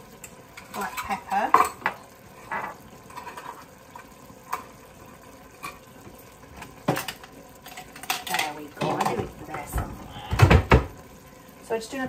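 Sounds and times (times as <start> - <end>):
stew simmering: 0.0 - 12.0.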